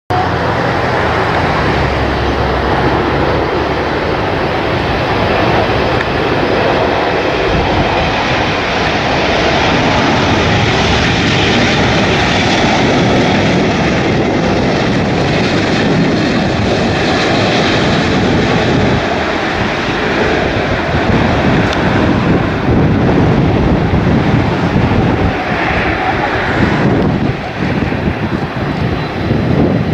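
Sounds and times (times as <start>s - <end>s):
jet engines roaring: 0.1s - 29.9s
wind buffeting microphone: 0.1s - 29.9s.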